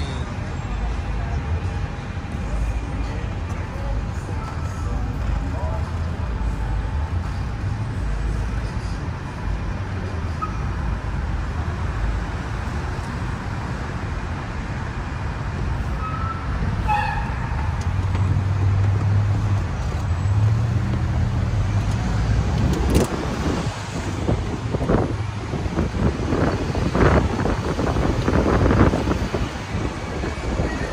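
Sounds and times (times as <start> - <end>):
bus engine rumbling: 0.0 - 30.9
road traffic rumbling: 0.0 - 30.9.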